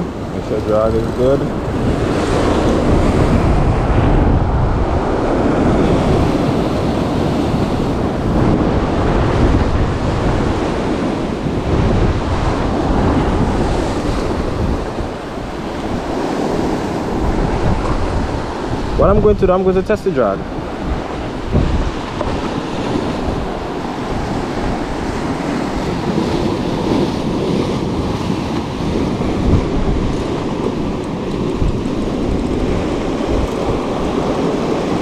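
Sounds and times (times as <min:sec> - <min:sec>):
surf breaking over rocks: 0:00.0 - 0:35.0
wind buffeting microphone: 0:00.0 - 0:35.0.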